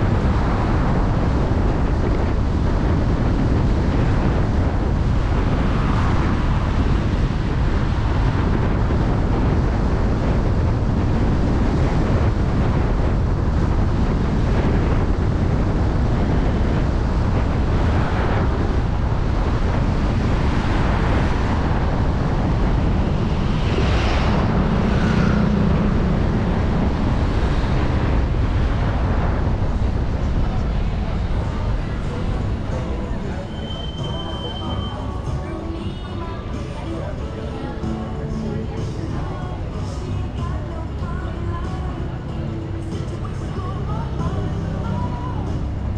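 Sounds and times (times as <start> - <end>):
low hum: 0.0 - 37.4
road and traffic rumble: 0.0 - 45.9
wind buffeting microphone: 0.0 - 45.9.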